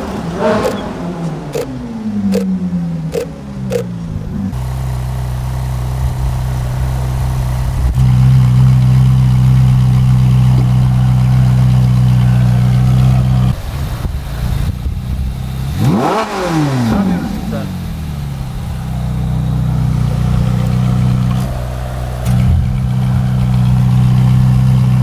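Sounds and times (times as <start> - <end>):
sports car engine idling: 0.0 - 25.0.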